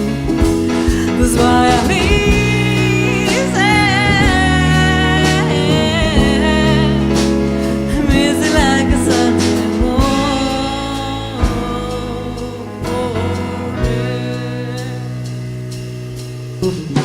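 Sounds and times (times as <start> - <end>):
live band music: 0.0 - 17.0
wavering lead melody: 0.0 - 17.0.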